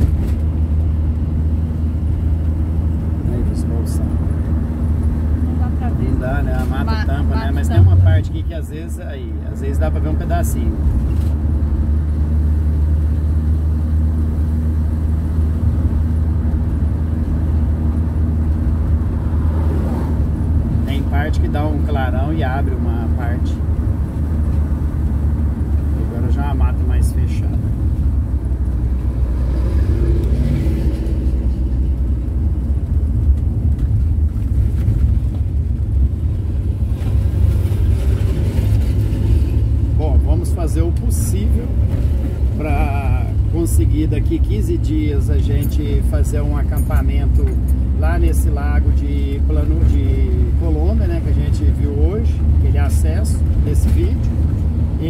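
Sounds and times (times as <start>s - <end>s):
road rumble: 0.0s - 55.0s
van engine drone: 0.0s - 55.0s.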